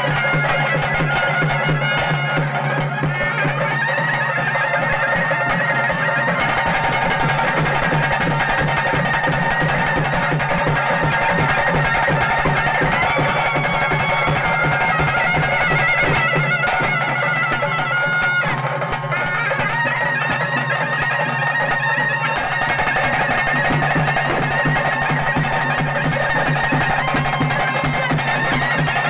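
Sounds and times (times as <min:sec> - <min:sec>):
drums beating: 0:00.0 - 0:29.0
reedy wind instrument melody: 0:00.0 - 0:29.0.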